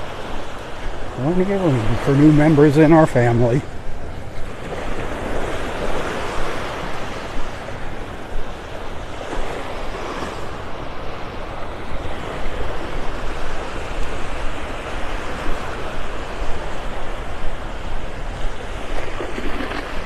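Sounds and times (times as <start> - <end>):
waves breaking on sandy beach: 0.0 - 20.0
wind rumble on microphone: 0.0 - 20.0.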